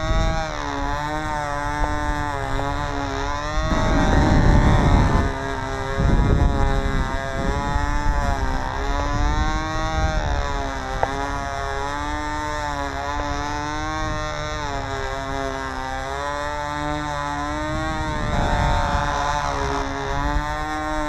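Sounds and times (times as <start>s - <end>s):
model airplane engine buzzing: 0.0s - 21.0s
wind rumble on microphone: 0.0s - 21.0s.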